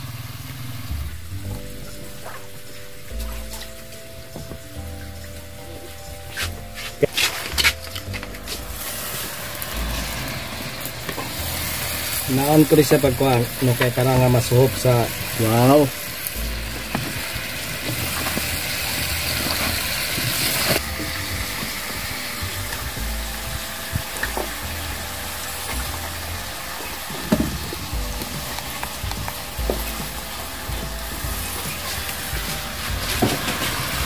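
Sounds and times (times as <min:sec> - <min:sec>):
chicken sizzling in a pan: 0:03.8 - 0:34.0.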